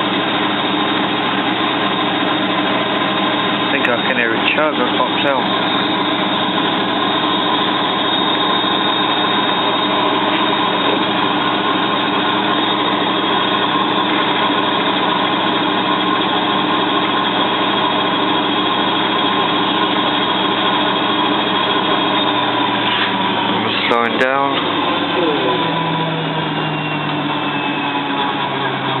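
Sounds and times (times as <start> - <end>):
washing machine spinning: 0.0 - 29.0.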